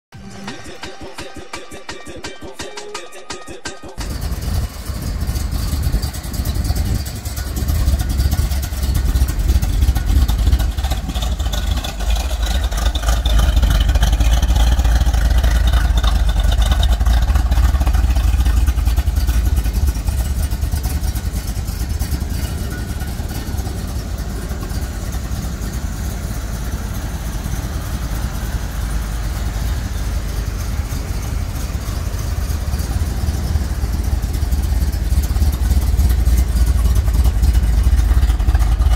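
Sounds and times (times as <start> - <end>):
car engine rumbling: 3.6 - 38.9.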